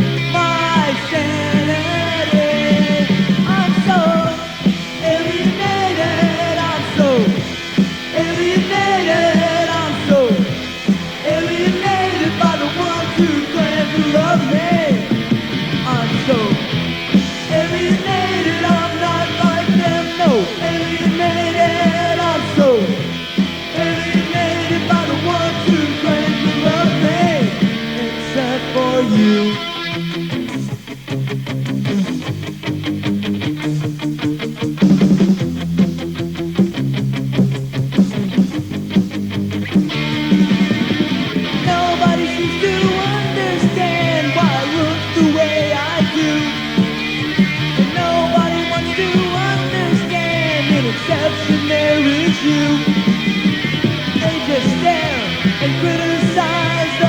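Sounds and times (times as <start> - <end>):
guitar sliding notes down: 0.0 - 57.0
pop punk band playing: 0.0 - 57.0.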